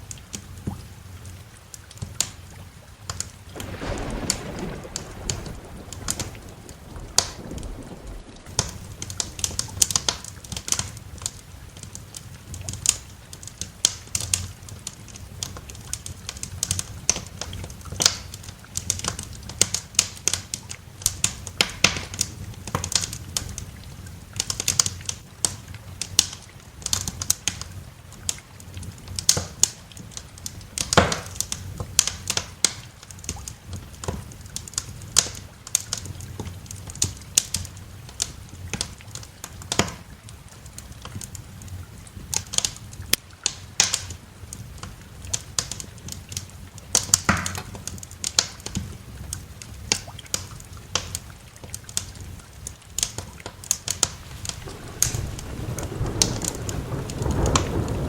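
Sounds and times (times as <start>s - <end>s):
low fire rumble: 0.4s - 58.0s
wood fire crackling and popping: 1.7s - 58.0s.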